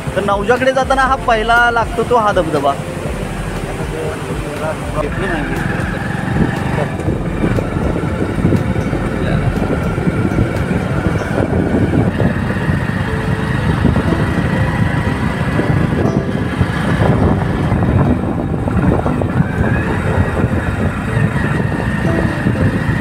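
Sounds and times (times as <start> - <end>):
road noise: 0.0 - 23.0
vehicle engine: 0.0 - 23.0.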